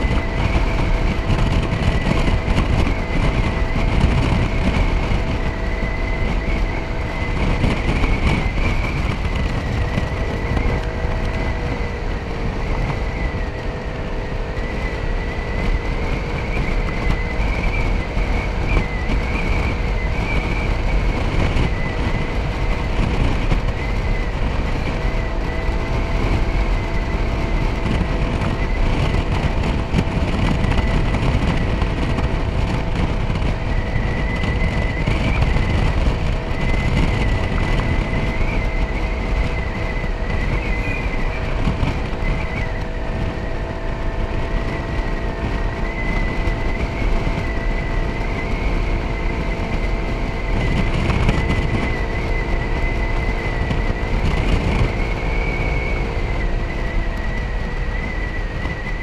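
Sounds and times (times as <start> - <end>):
motor scooter engine running: 0.0 - 59.0
wind rumble on microphone: 0.0 - 59.0.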